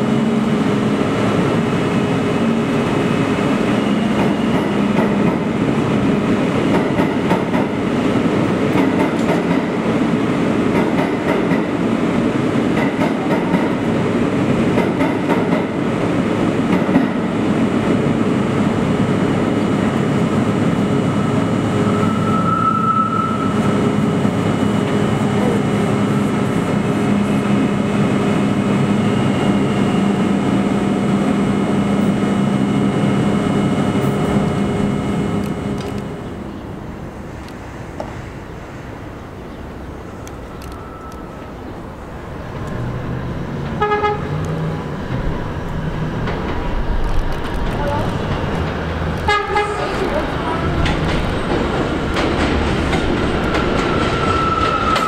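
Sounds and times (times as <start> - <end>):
high train whine: 0.0 - 55.0
subway train rumble: 0.0 - 55.0.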